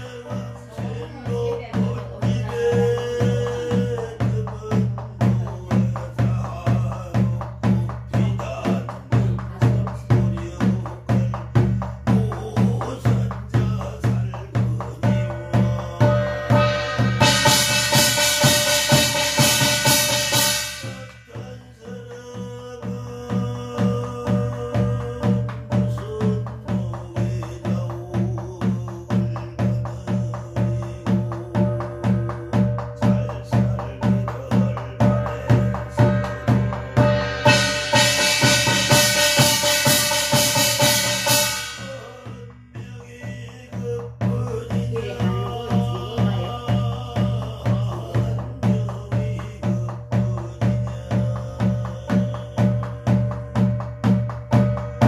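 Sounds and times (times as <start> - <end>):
chanted prayer: 0.0 - 53.3
barrel drum booming: 0.0 - 55.0.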